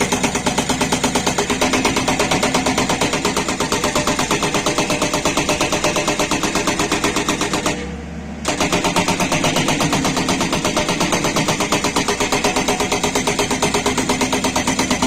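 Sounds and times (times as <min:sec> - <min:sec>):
hydraulic rock breaker hammering: 0:00.0 - 0:15.0.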